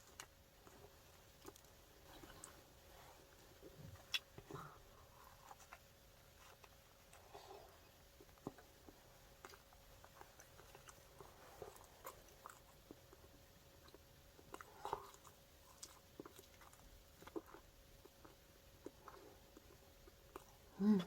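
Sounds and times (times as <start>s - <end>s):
person chewing: 0.0s - 21.0s.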